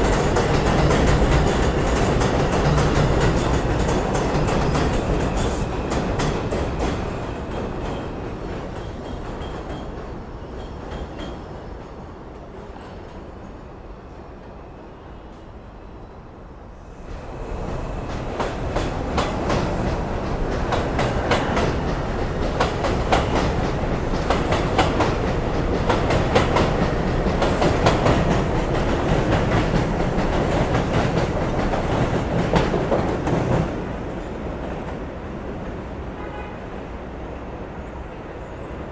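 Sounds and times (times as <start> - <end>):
subway train passing: 0.0 - 38.9.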